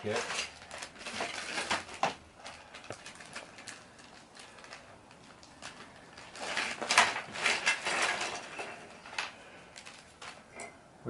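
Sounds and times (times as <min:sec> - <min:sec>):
small parts clicking and clattering: 0:00.0 - 0:10.8.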